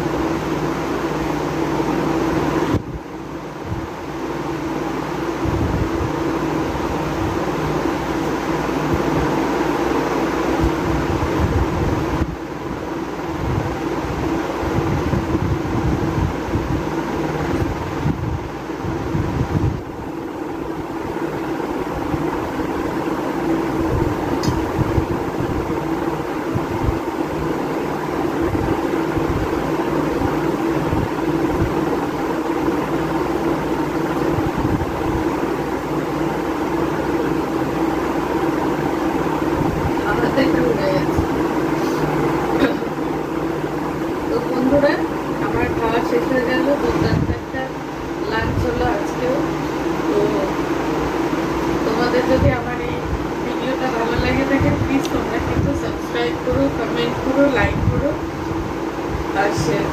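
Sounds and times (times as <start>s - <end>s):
fan humming: 0.0s - 59.9s
air rumbling on microphone: 5.2s - 59.9s.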